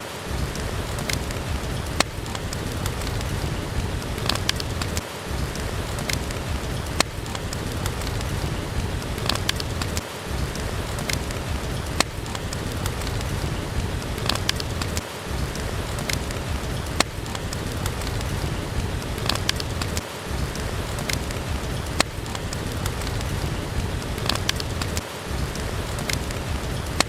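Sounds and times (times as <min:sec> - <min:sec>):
rain hiss: 0:00.0 - 0:27.0
wood fire crackling: 0:00.0 - 0:27.0.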